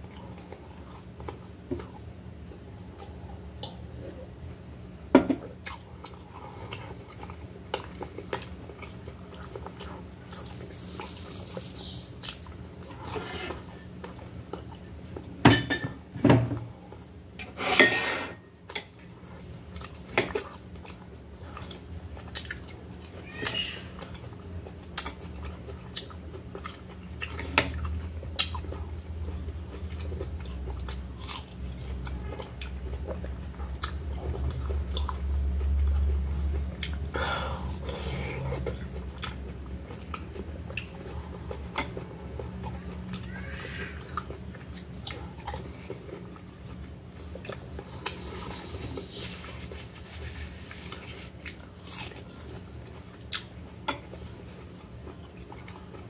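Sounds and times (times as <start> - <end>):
wet chewing of melon: 0.0 - 4.6, 5.5 - 15.3, 19.1 - 56.0.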